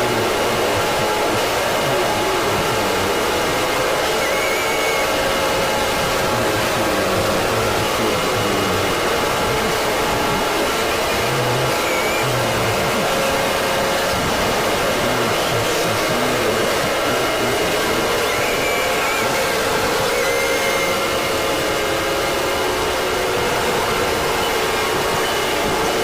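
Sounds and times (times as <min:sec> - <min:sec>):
loud static noise: 0:00.0 - 0:26.0.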